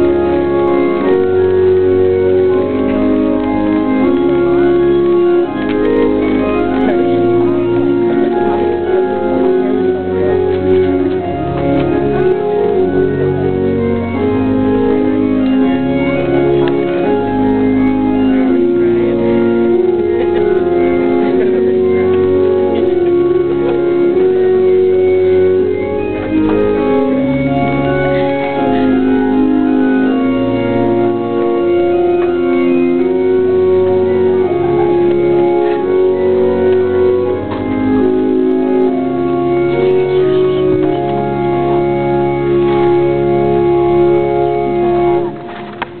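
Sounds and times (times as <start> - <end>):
church organ chords: 0.0 - 46.0.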